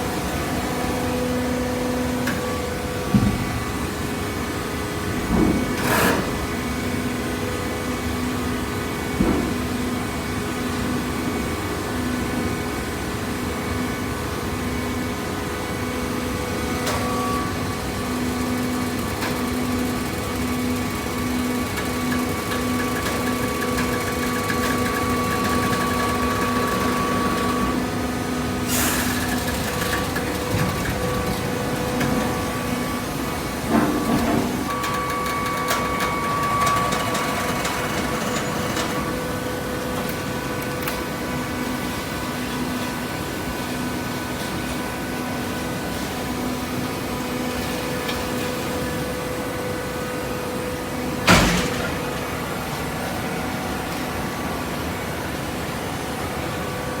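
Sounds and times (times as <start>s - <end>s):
conveyor and baler machinery humming: 0.0s - 57.0s.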